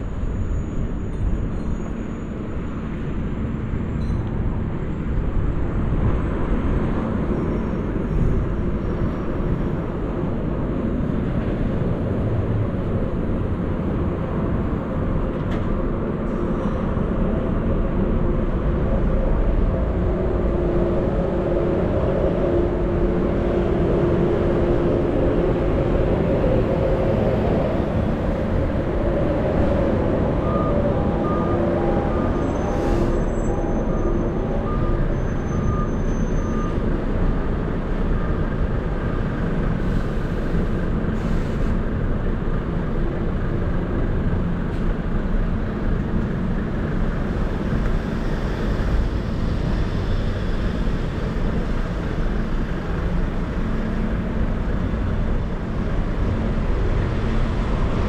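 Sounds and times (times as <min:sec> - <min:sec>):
heavy vehicle engine hum: 0:00.0 - 0:58.0
road traffic noise: 0:00.0 - 0:58.0.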